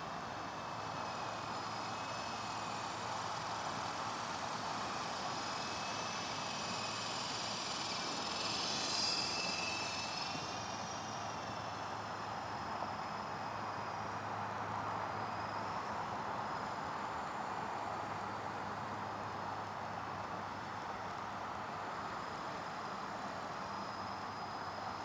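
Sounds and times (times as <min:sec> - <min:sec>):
helicopter turbine and rotor noise: 0:00.0 - 0:25.0.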